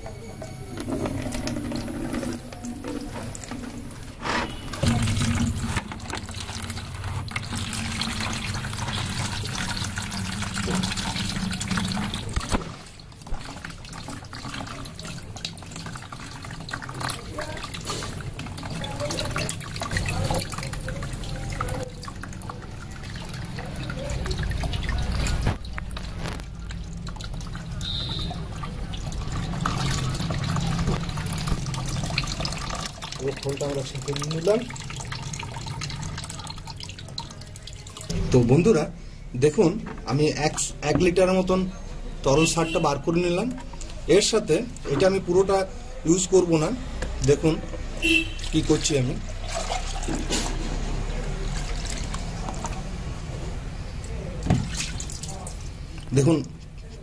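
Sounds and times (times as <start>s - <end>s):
liquid trickling and dripping: 0.0s - 57.0s
thick liquid pouring into bucket: 0.9s - 39.2s, 42.3s - 57.0s.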